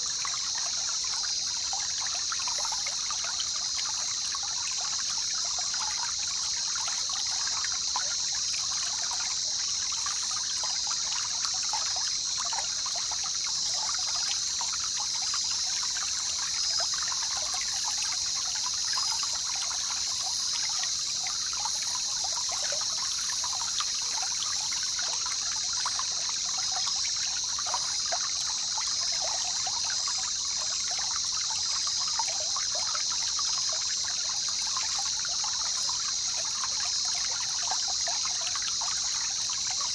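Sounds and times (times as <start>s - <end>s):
river water flowing and trickling: 0.0s - 39.9s.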